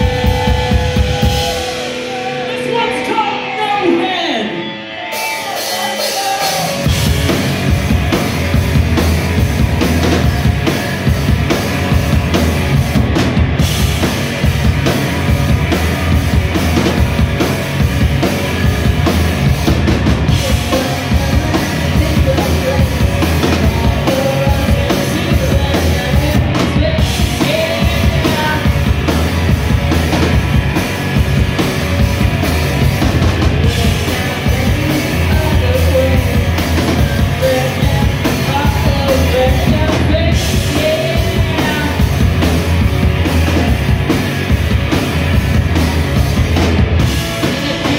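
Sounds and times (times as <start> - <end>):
bass drum: 0.0 - 1.7, 6.8 - 47.9
electric guitars: 0.0 - 47.9
rock band playing loud: 0.0 - 47.9.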